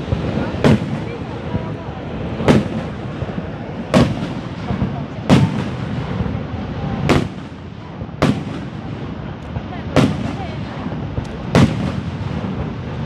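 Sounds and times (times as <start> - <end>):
fireworks bursting with bangs: 0.0 - 13.0
rushing background noise: 0.0 - 13.0.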